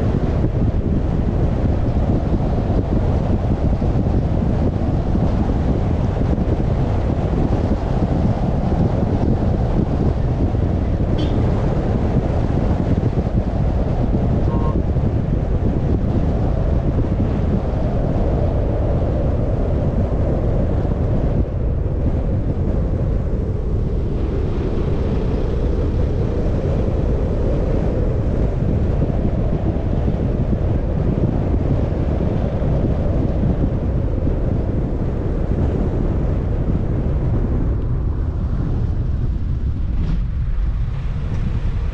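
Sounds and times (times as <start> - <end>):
car road noise rumble: 0.0 - 41.9
wind buffeting microphone: 0.0 - 41.9.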